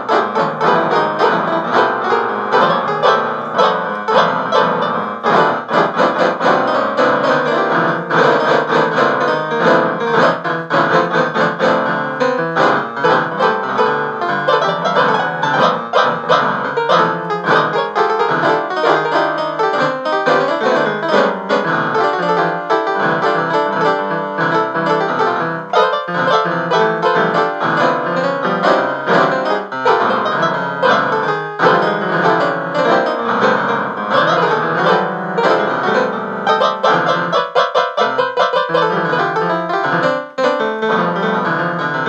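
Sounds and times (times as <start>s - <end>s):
piano playing: 0.0s - 42.0s.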